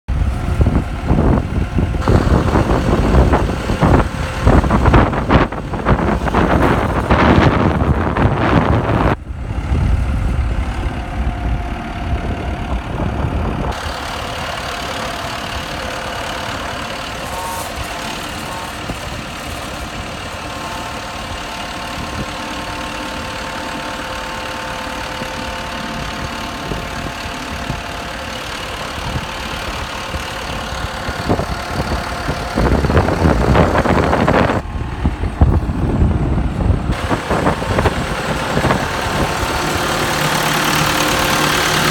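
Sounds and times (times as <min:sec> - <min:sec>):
wind buffeting microphone: 0:00.1 - 0:23.8, 0:25.0 - 0:41.9
tractor diesel engine idling: 0:00.1 - 0:41.9.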